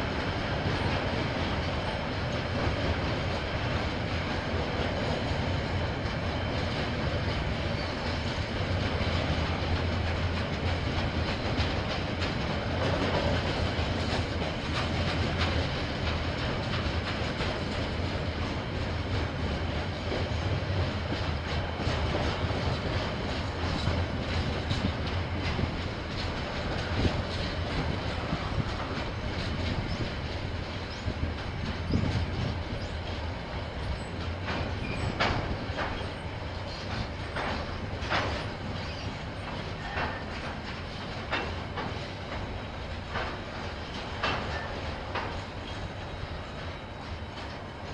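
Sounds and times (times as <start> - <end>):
train rumbling past: 0.0 - 47.9
wheels clicking over rail joints: 0.2 - 47.9.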